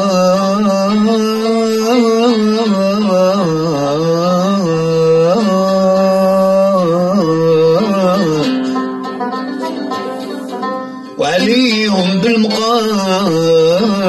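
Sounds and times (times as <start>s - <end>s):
man singing melismatic line: 0.0s - 8.9s, 11.0s - 14.0s
plucked string instrument: 0.0s - 14.0s.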